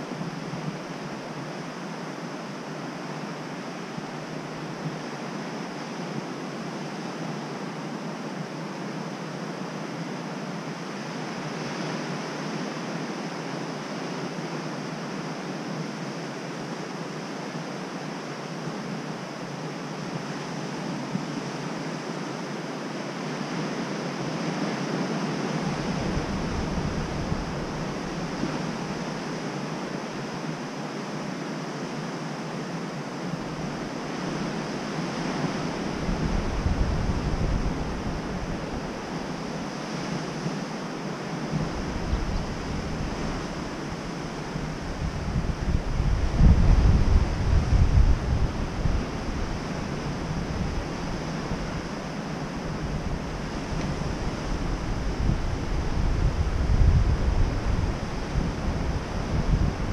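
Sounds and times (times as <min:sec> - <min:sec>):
waves breaking on rocks and sand: 0:00.0 - 0:59.9.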